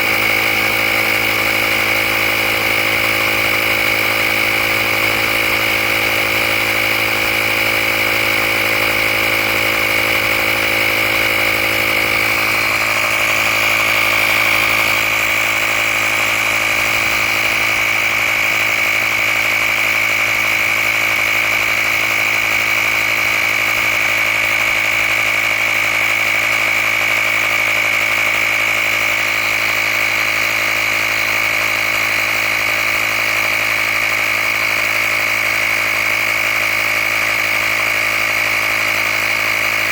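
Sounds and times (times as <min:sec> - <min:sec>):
air compressor whining: 0:00.0 - 0:39.9.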